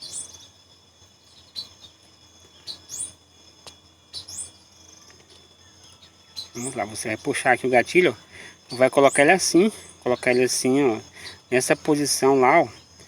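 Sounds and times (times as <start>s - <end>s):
insects trilling: 0.0s - 13.0s
bird rising chirp: 1.2s - 3.2s, 4.1s - 13.0s.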